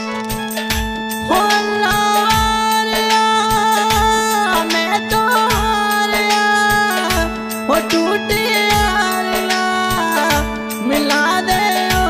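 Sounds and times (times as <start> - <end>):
lead melody line: 0.0 - 12.0
steady drum beat: 0.4 - 12.0.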